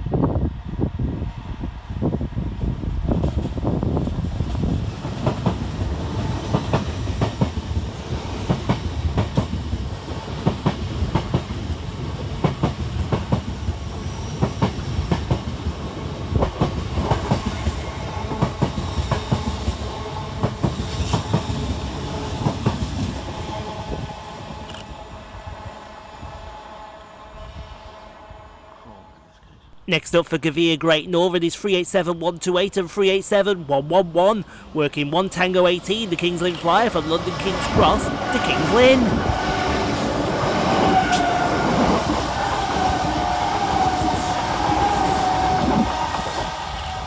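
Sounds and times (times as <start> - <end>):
train rumbling past: 0.0 - 30.0, 34.5 - 47.0.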